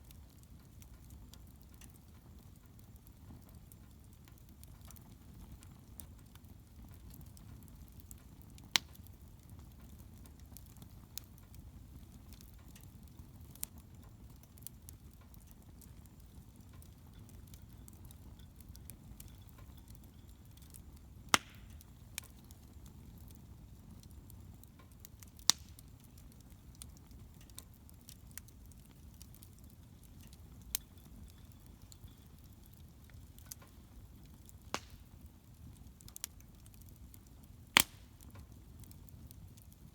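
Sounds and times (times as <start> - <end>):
bonfire flame rumble: 0.0 - 39.9
fire crackles and pops: 0.0 - 39.9.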